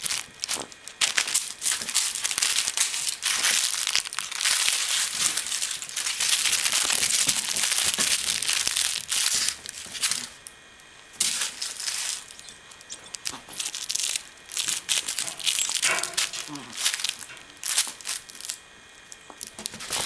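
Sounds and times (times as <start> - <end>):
foil ball crinkling: 0.0 - 20.0.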